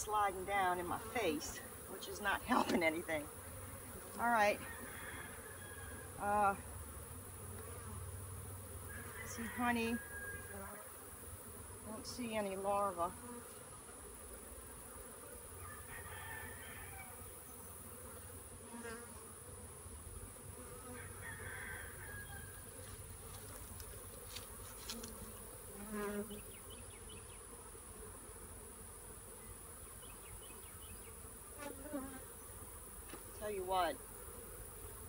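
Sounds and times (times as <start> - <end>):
honeybees buzzing: 0.0 - 35.0.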